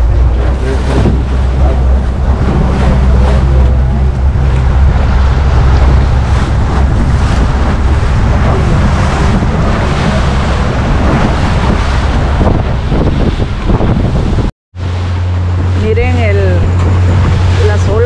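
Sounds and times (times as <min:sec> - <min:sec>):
boat engine running: 0:00.0 - 0:18.0
water splashing against hull: 0:00.0 - 0:18.0
wind buffeting microphone: 0:00.0 - 0:18.0.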